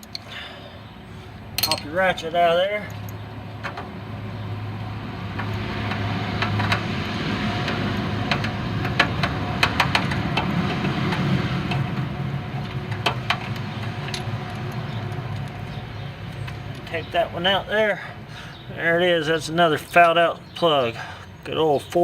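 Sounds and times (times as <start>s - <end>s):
low mechanical hum: 0.0s - 20.6s.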